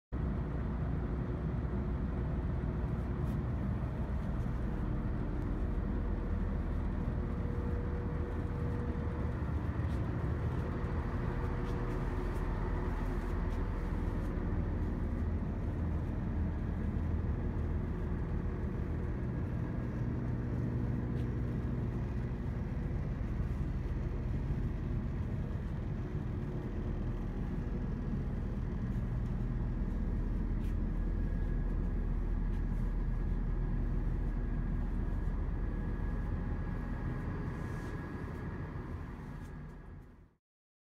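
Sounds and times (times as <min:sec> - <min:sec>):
diesel train engines idling: 0:00.2 - 0:40.2.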